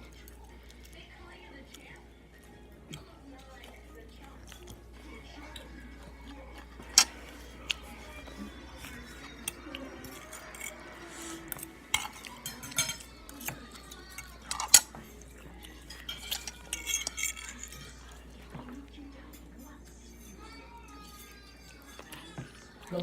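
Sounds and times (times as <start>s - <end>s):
cutlery clinking against dishes: 4.4s - 23.0s.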